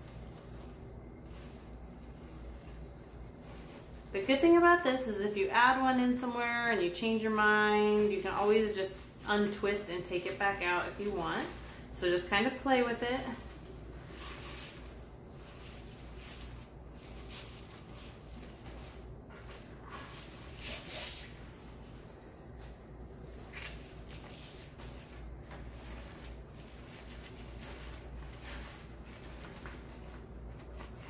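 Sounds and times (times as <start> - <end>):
mesh and ribbon rustling: 0.0 - 31.0.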